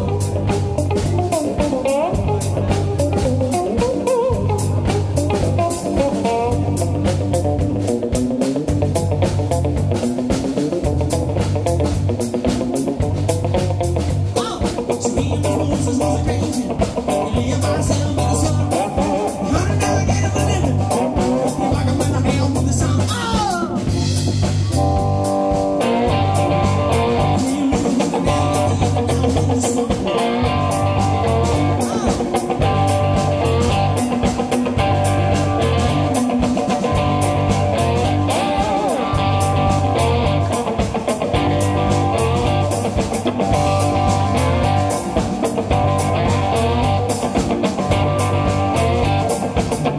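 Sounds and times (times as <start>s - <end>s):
bass guitar riff: 0.0s - 49.9s
drum kit: 0.0s - 49.9s
slide guitar: 0.0s - 49.9s.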